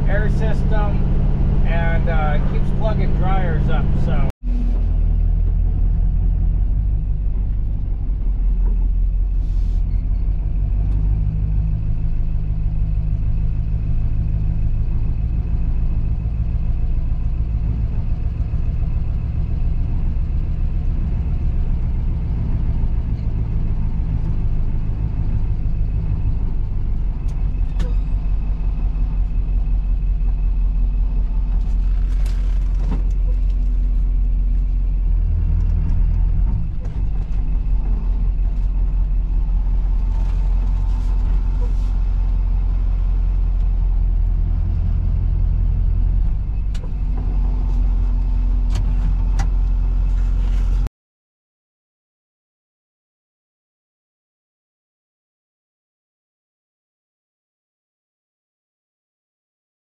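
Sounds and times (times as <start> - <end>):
truck engine rumbling: 0.0 - 50.9.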